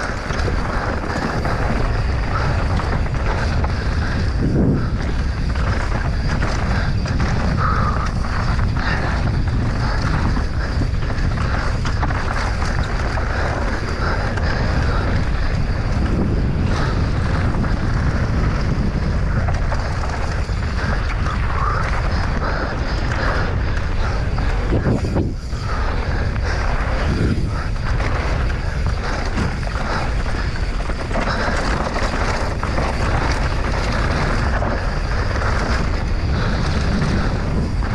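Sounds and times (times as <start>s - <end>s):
bike knocks and rattles: 0.0s - 37.9s
wind buffeting microphone: 0.0s - 37.9s.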